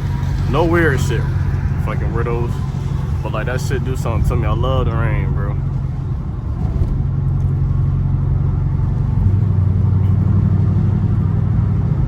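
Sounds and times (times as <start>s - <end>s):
car engine and exhaust droning: 0.0s - 12.0s.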